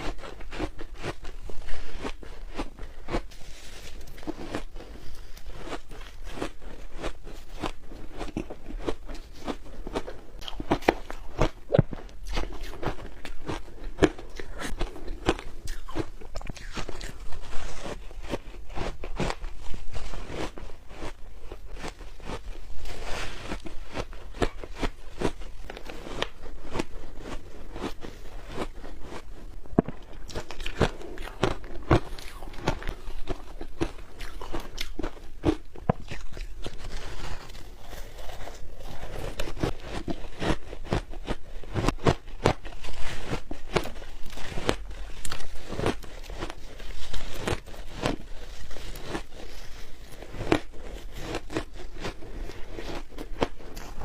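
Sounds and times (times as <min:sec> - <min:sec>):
ice crunching as it is chewed: 0:00.0 - 0:54.0.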